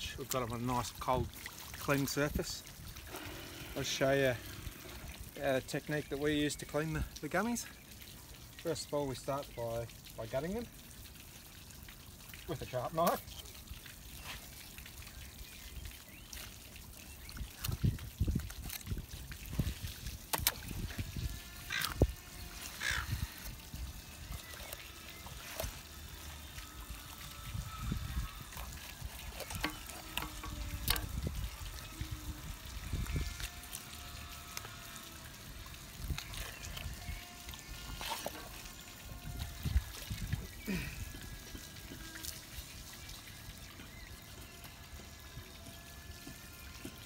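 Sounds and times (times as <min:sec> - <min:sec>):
water running and trickling: 0:00.0 - 0:47.0.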